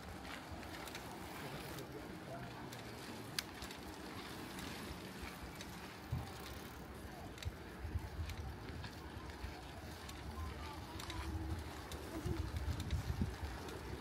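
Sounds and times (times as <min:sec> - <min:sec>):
bicycle rolling noise: 0:00.0 - 0:14.0
faint steady wind: 0:00.0 - 0:14.0.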